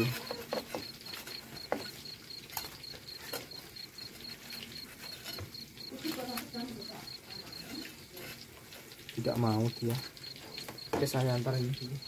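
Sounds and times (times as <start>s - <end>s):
cricket chirping: 0.0s - 12.0s
fritters frying in hot oil: 0.0s - 12.0s.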